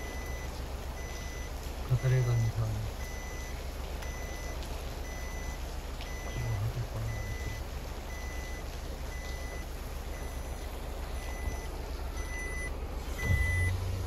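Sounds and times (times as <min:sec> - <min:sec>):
car warning beeper: 0:00.0 - 0:13.8
car engine rumble: 0:00.0 - 0:14.0.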